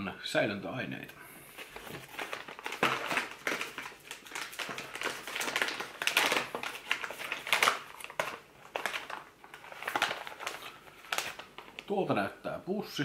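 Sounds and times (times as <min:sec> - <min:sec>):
plastic chip bag crinkling: 0:01.5 - 0:12.2.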